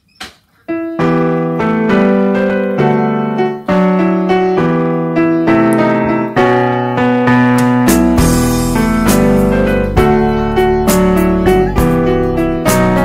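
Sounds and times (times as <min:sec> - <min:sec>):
gentle piano music: 0:00.7 - 0:13.0.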